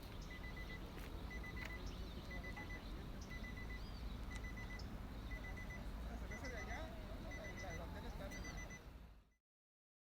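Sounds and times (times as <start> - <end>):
electronic alarm beeping: 0.3 - 9.4.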